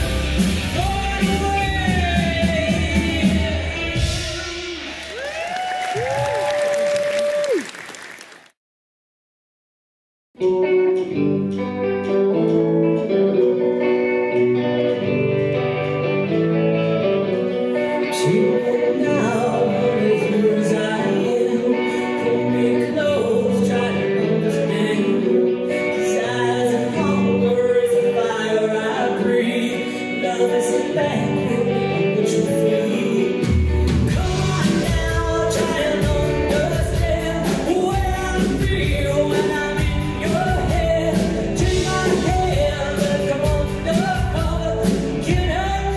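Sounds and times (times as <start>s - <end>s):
rock band playing: 0.0s - 6.6s, 10.4s - 45.9s
person singing: 0.0s - 7.6s, 10.4s - 45.9s.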